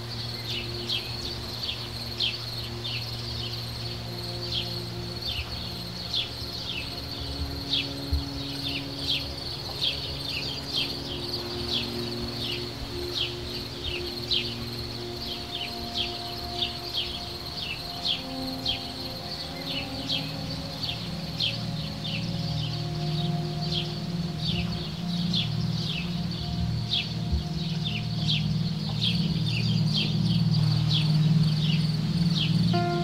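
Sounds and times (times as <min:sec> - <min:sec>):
faint low sustained tones: 0:00.0 - 0:33.0
high insect trill: 0:00.0 - 0:33.0.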